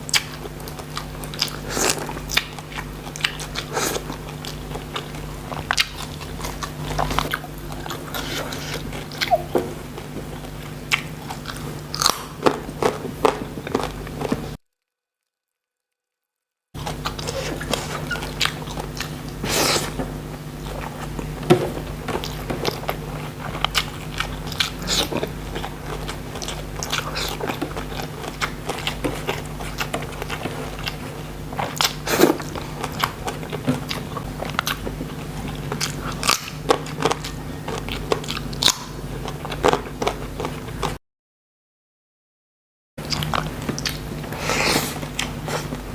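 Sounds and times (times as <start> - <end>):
wet chewing: 0.0 - 14.8, 16.8 - 41.0, 43.0 - 45.9
low electrical hum: 0.0 - 41.0, 43.0 - 45.9.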